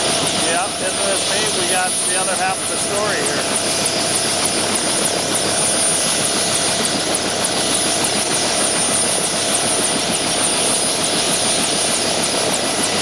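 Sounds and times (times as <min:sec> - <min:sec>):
helicopter engine and rotor: 0:00.0 - 0:13.0
turbine whine: 0:00.0 - 0:13.0.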